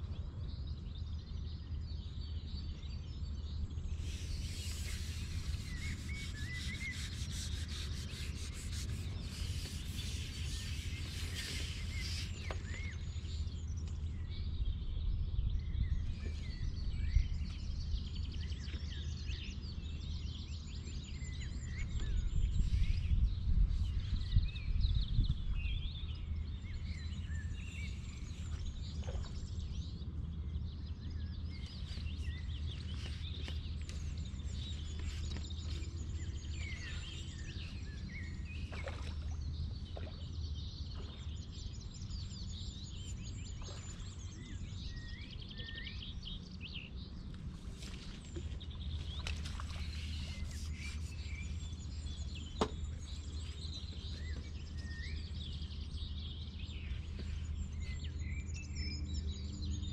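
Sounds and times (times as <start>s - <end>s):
small birds chirping: 1.3s - 14.4s, 18.2s - 59.9s.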